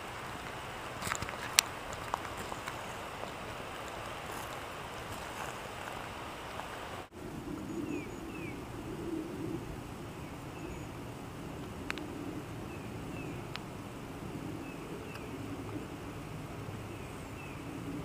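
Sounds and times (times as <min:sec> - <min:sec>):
wind-like outdoor noise: 0:00.0 - 0:18.0.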